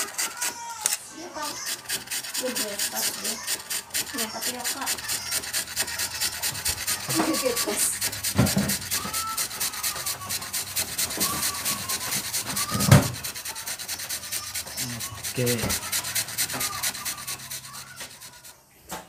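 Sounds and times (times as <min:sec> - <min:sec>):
root rasping on metal grater: 0:01.3 - 0:18.5.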